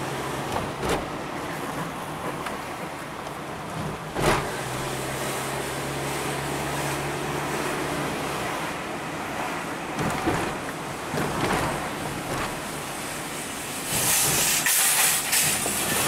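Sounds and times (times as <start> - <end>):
low engine hum: 0.0 - 14.4
car engine and tyre rumble: 0.0 - 16.0.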